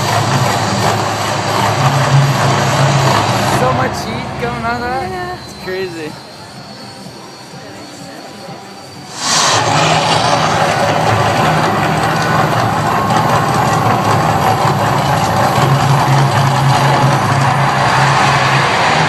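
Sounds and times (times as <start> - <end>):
gas flames whooshing and rushing: 0.0 - 19.0
low hum: 0.0 - 19.0.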